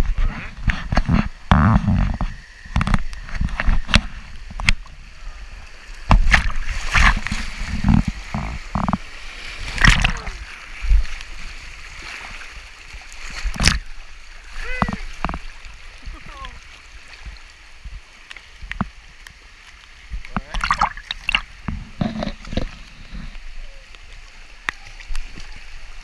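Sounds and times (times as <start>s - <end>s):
river water rushing and splashing: 0.0s - 26.0s
water splashing on camera: 0.0s - 26.0s.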